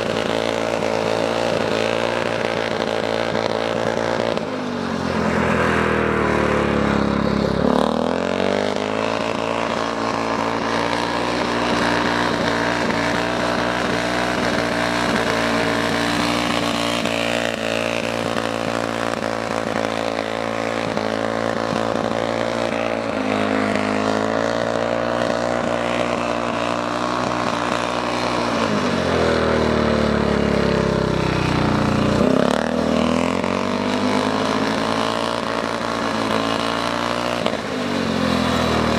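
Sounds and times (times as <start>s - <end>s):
motorcycle engine running hard: 0.0s - 38.9s.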